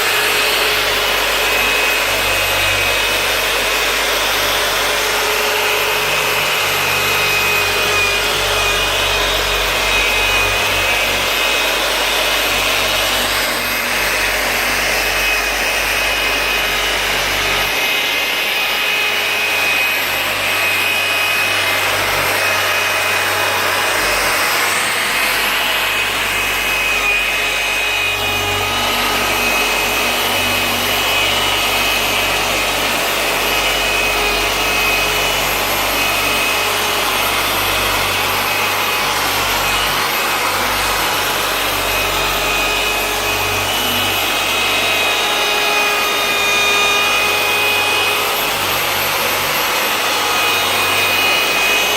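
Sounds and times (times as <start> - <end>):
power tool motor whine: 0.0 - 51.9.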